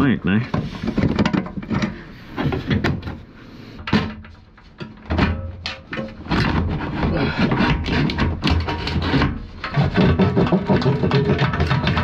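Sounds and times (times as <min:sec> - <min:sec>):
metal knocks and clunks: 0:00.4 - 0:12.0.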